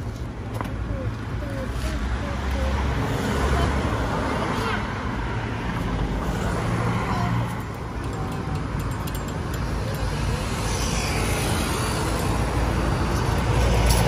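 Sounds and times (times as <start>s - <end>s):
roadside traffic noise: 0.0s - 14.0s.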